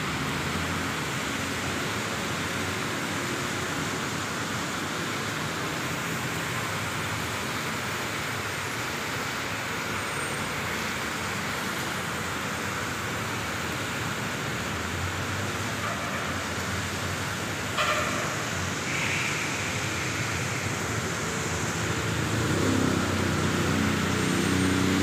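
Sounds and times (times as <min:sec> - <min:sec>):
rain and tyres hissing on road: 0:00.0 - 0:25.0
rumble of passing vehicles: 0:00.0 - 0:25.0.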